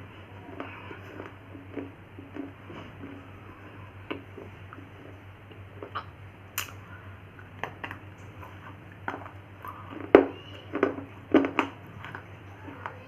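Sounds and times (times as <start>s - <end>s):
crunching of hard biscuit: 0.4s - 6.8s, 7.4s - 13.0s.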